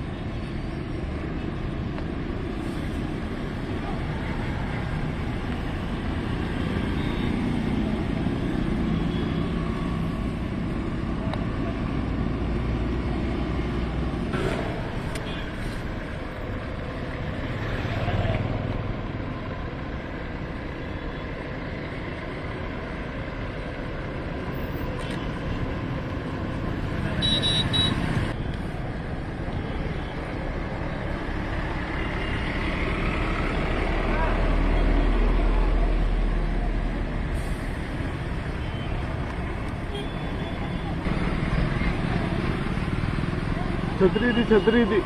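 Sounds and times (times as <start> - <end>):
traffic on wet road: 0.0 - 45.0.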